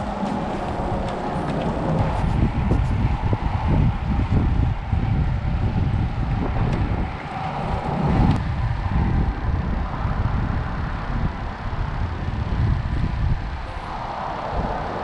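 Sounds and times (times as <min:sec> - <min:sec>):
traffic rumbling over bridge: 0:00.0 - 0:15.0
wind buffeting microphone: 0:00.0 - 0:15.0.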